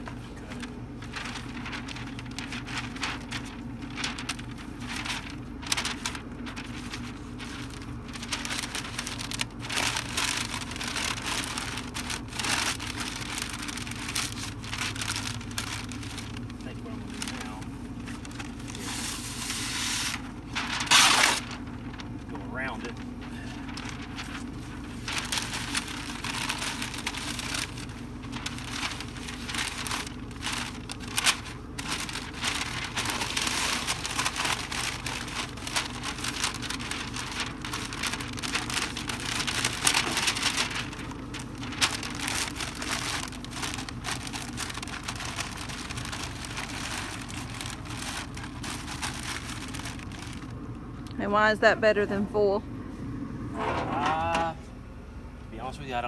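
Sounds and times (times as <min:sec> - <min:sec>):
paper crinkling and rustling: 0:00.0 - 0:51.6.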